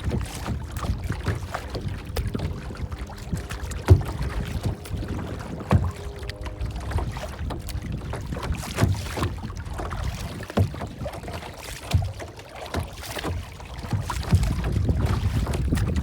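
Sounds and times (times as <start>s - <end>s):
water lapping and splashing: 0.0s - 16.0s
wind rumble on microphone: 0.0s - 16.0s.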